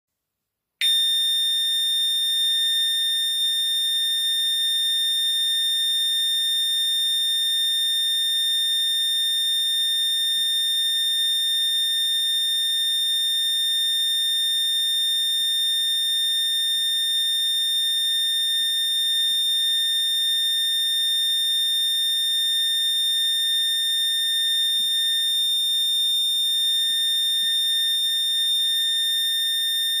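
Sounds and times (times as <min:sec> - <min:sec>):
fire alarm steady high tone: 0:00.8 - 0:30.0.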